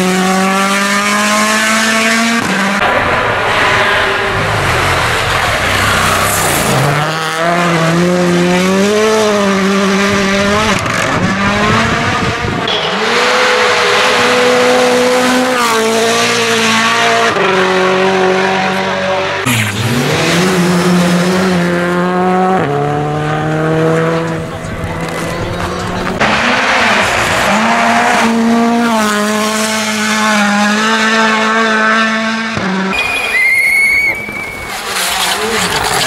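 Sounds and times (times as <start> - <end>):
rally car engines at full throttle: 0.0 - 36.0.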